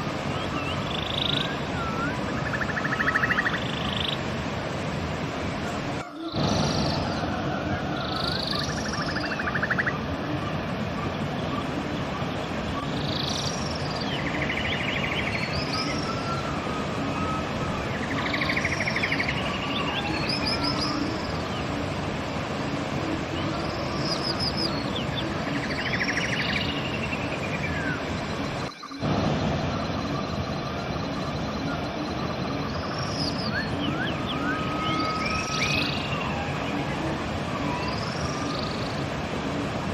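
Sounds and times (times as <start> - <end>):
river water rushing: 0.0 - 39.9
songbirds singing: 0.0 - 39.9.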